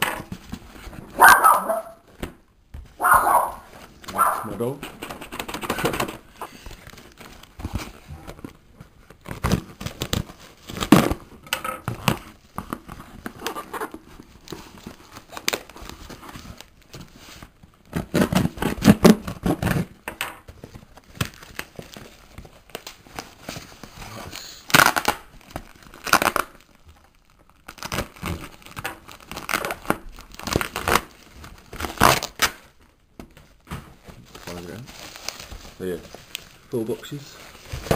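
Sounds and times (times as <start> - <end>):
packaging crinkling and tearing: 3.5 - 37.9.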